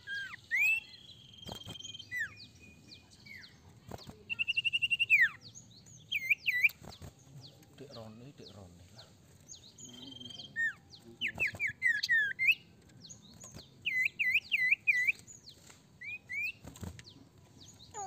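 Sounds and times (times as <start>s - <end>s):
bird singing whistled chirps: 0.0s - 3.6s, 4.3s - 7.0s, 9.5s - 18.0s.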